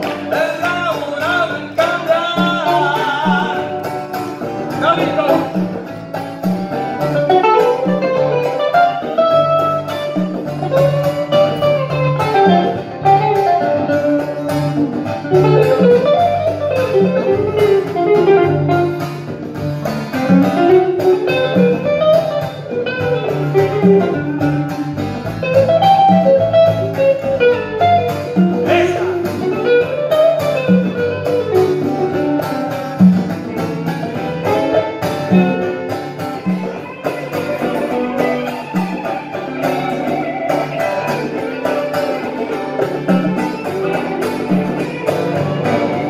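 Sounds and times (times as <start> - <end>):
acoustic guitar: 0.0 - 46.0
conga and drum percussion: 0.0 - 46.0
electric guitar lead melody: 0.0 - 46.0.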